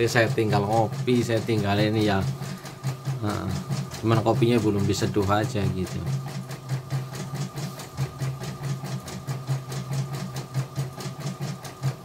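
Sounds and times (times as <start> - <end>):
needle strokes of embroidery machine: 0.0 - 12.0
steady motor hum: 0.0 - 12.0.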